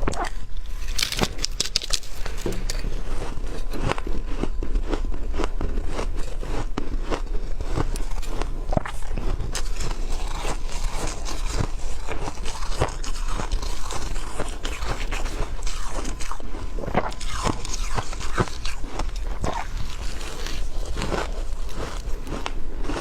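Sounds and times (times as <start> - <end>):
person chewing ice: 0.0 - 23.0.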